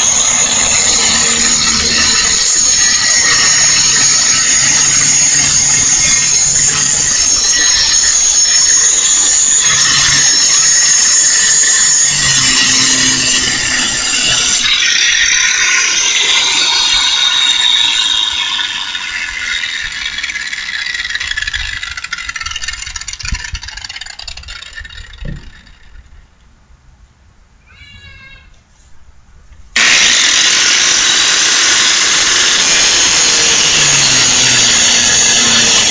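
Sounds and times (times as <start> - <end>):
grinder motor winding down: 0.0 - 26.1, 29.8 - 35.9
angle grinder grinding metal: 0.0 - 26.2, 29.8 - 35.9.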